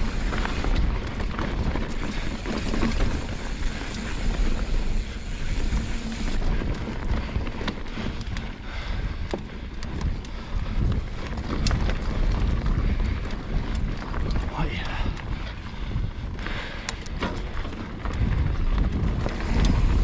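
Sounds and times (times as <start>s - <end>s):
bike clicks and rattles: 0.0s - 20.0s
wind buffeting microphone: 0.0s - 20.0s.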